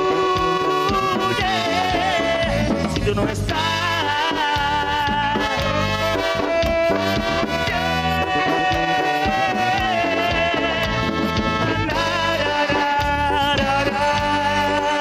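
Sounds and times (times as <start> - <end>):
bass and drums: 0.0 - 15.0
brass band instrumental: 0.0 - 15.0.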